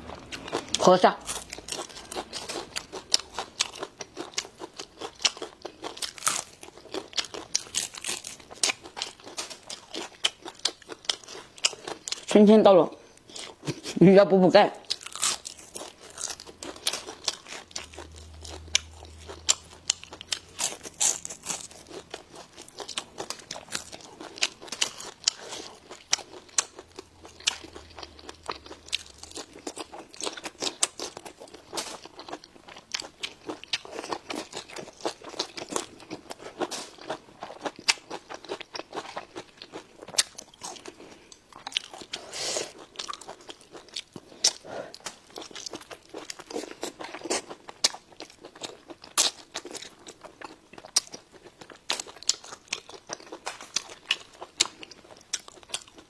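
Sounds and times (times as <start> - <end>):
chewing crispy fried fish: 0.0 - 12.4, 13.0 - 14.0, 14.8 - 56.0.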